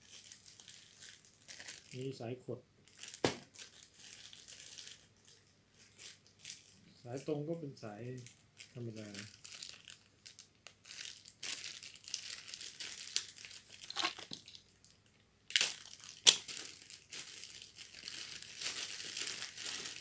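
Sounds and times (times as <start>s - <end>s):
plastic bag crinkling: 0.0s - 2.1s, 2.9s - 7.2s, 8.1s - 20.0s.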